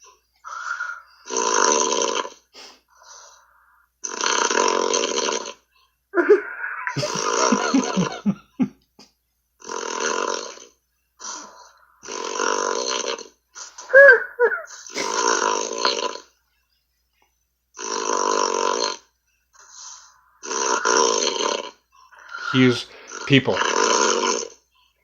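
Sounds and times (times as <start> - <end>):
man snoring: 0.4 - 5.6, 6.8 - 8.3, 9.6 - 16.3, 17.8 - 24.6.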